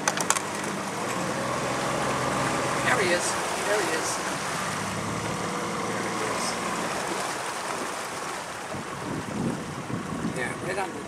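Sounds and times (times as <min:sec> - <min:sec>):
boat motor humming: 0:00.0 - 0:11.0
water splashing: 0:00.0 - 0:11.0
wind: 0:00.0 - 0:11.0.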